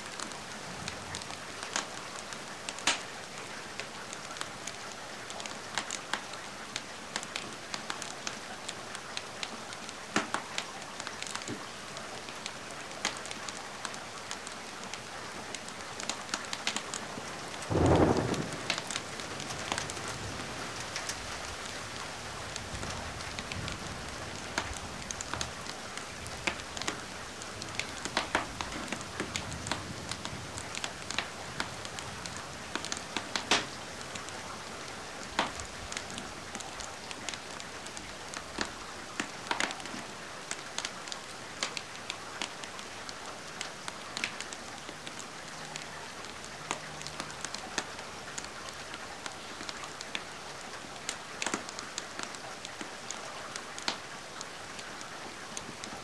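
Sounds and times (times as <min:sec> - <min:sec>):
steady rain hiss: 0:00.0 - 0:56.0
wood fire crackling: 0:00.1 - 0:56.0.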